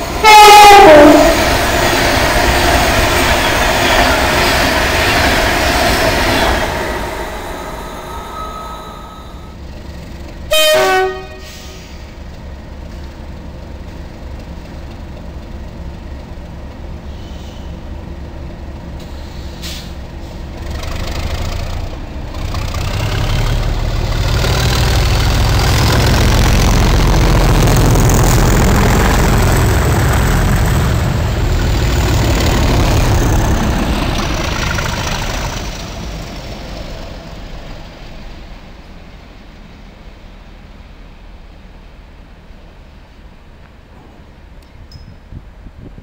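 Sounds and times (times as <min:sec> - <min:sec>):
diesel locomotive engine rumble: 0:00.0 - 0:46.0.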